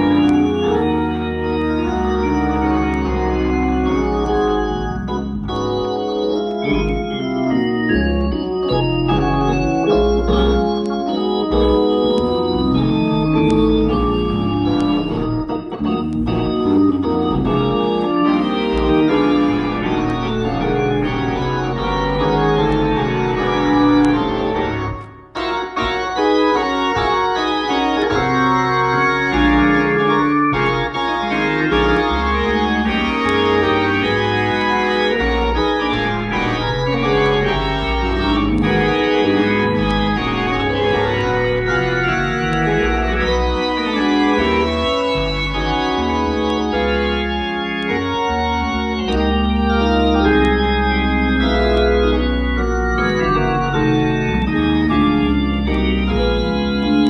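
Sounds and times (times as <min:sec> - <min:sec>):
electronic organ chords: 0:00.0 - 0:57.0.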